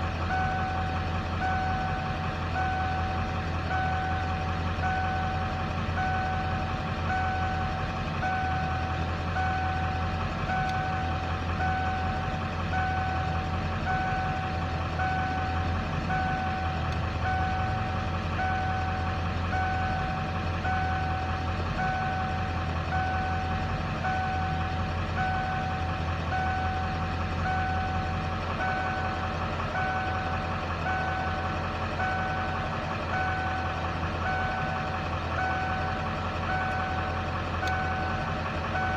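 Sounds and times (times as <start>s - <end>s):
diesel engine idling rough: 0.0s - 38.9s.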